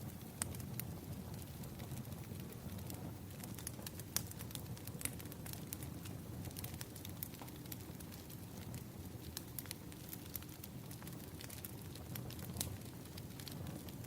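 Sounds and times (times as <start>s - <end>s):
firewood crackling and popping: 0.0s - 14.0s
low rumble of fire: 0.0s - 14.0s.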